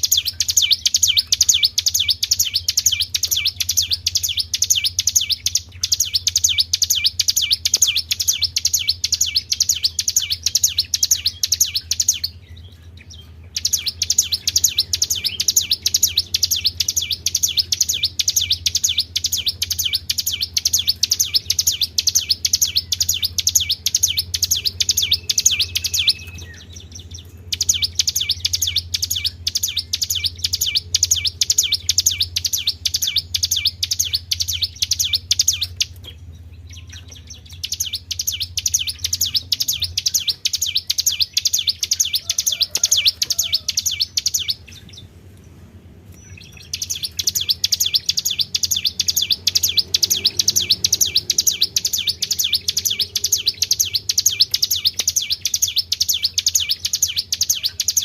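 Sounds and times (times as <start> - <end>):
songbird fast high chirps: 0.0 - 58.0
steady low hum: 0.0 - 58.0.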